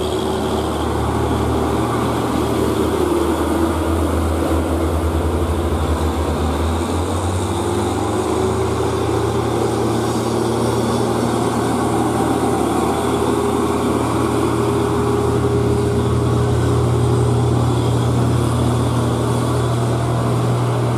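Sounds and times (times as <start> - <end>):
truck engine labouring: 0.0 - 20.9.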